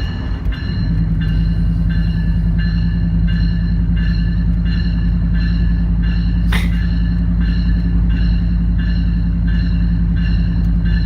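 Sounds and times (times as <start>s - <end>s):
locomotive bell ringing: 0.0s - 11.0s.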